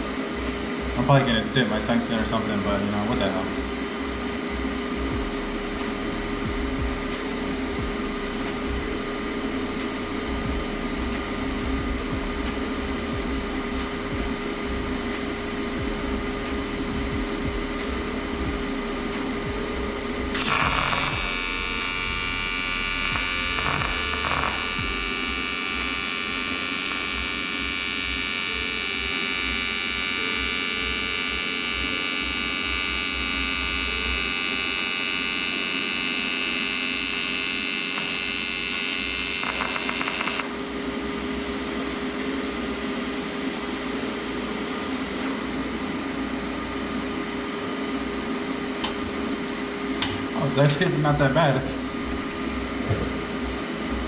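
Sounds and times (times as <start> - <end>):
background hum: 0.0 - 54.0
welding arc buzzing: 4.8 - 45.4, 50.0 - 52.7.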